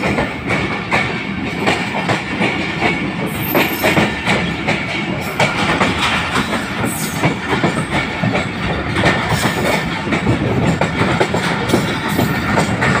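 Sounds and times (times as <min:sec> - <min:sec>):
train rumbling on track: 0:00.0 - 0:13.0
wheels clicking over rail joints: 0:00.0 - 0:13.0.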